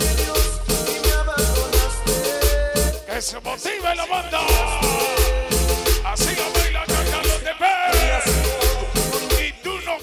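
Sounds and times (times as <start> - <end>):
cumbia music over sound system: 0.0 - 10.0.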